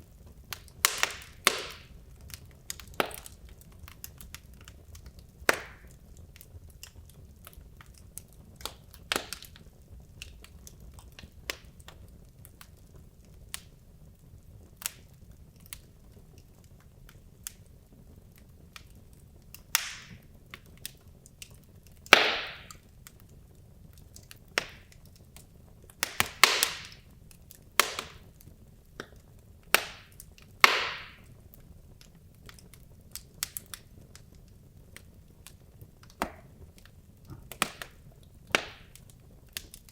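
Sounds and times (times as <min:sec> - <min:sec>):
fire crackling and popping: 0:00.0 - 0:39.9
low background noise: 0:00.0 - 0:39.9.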